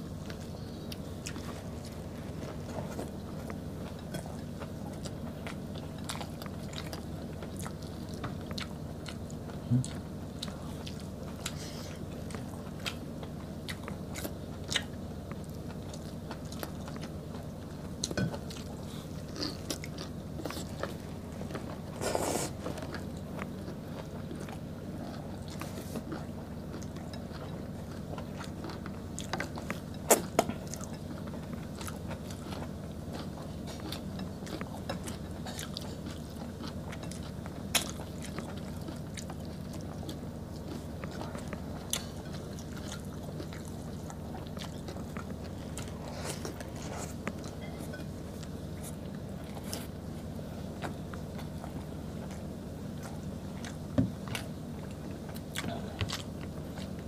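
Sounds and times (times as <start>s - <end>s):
people chewing and biting food: 0.0s - 57.0s
steady low hum: 0.0s - 57.0s.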